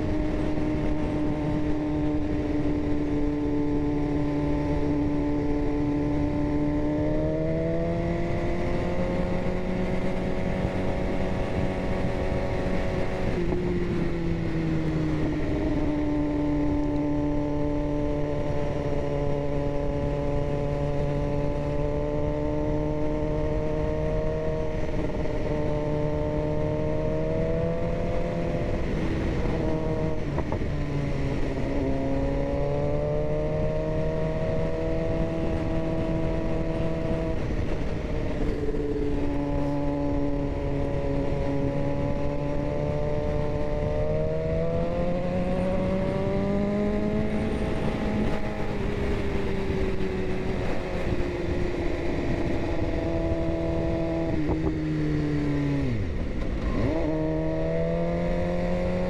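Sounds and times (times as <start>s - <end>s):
motorcycle engine running: 0.0s - 59.0s
wind rumble on microphone: 0.0s - 59.0s.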